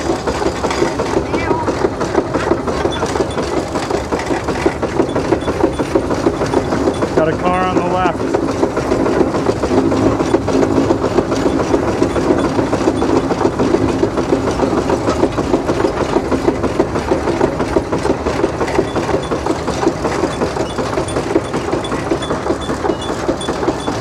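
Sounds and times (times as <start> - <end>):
rapid mechanical gear clatter: 0.0 - 24.0
steam traction engine running: 0.0 - 24.0.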